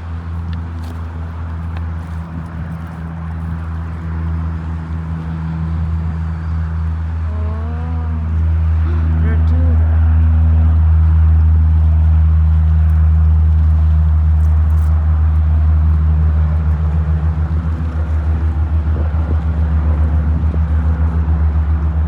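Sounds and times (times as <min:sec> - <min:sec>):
low engine drone pulsing: 0:00.0 - 0:22.0.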